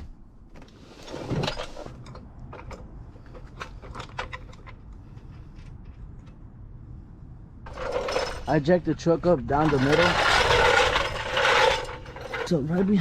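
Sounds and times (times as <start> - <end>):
gear and tools clinking: 1.3 - 6.4, 7.7 - 13.0.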